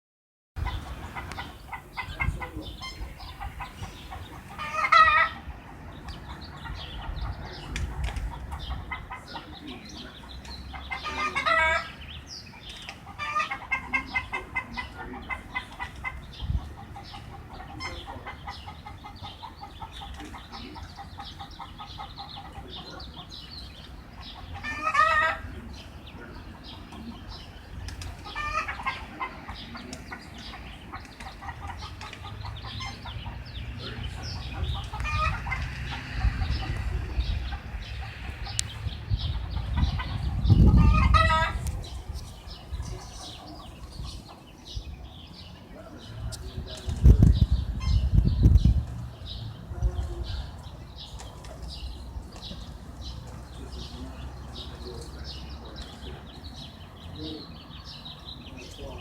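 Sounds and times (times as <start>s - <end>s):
chickens clucking: 0.6s - 59.0s.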